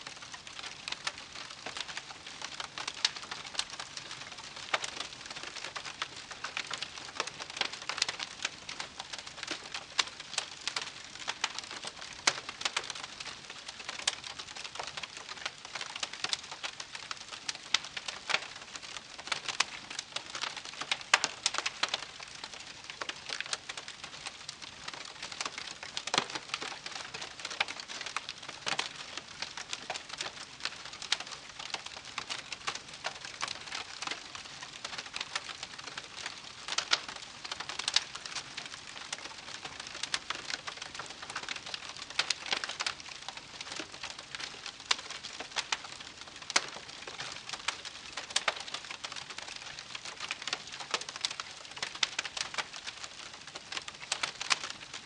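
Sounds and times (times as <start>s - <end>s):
campfire crackling: 0.1s - 55.0s.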